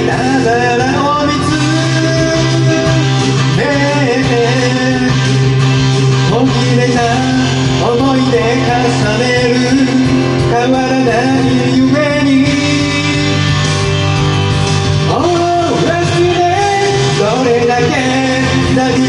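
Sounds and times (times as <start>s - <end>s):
instrumental karaoke backing track: 0.0s - 19.0s.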